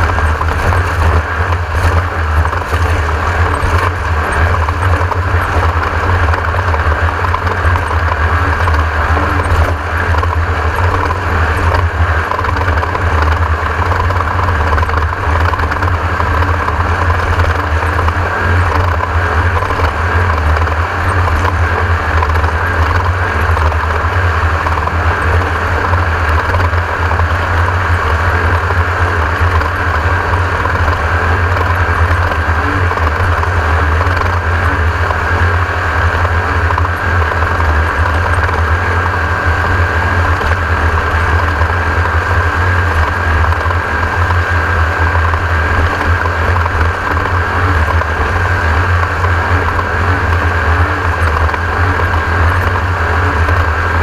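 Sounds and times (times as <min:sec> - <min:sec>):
buggy engine drone with rattle: 0:00.0 - 0:54.0.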